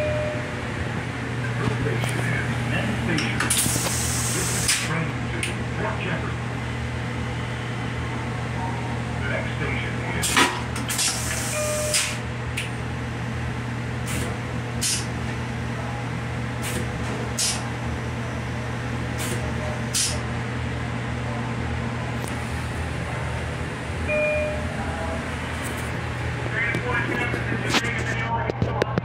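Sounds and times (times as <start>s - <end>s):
train running drone and hum: 0.0s - 29.0s.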